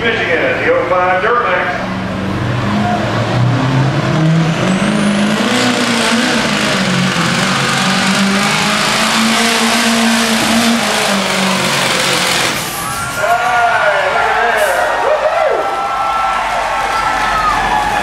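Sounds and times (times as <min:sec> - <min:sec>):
diesel engine at full throttle: 0:00.0 - 0:15.9.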